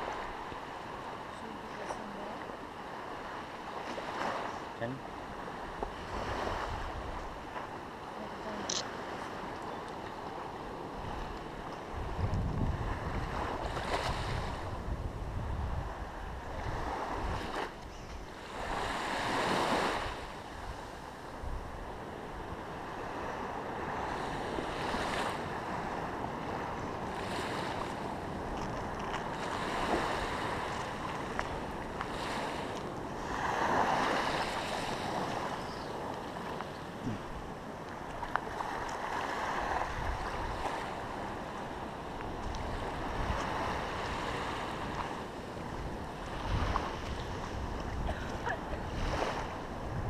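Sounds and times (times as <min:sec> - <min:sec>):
sea waves washing in: 0:00.0 - 0:50.0
wind rumbling on microphone: 0:00.0 - 0:50.0.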